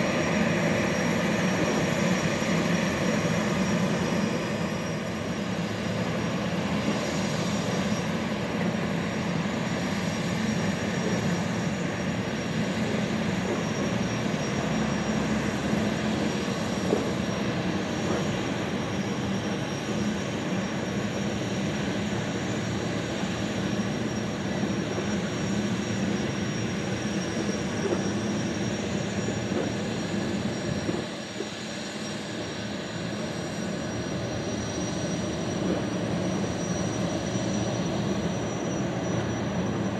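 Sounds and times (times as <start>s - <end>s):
high turbine whine: 0.0s - 39.9s.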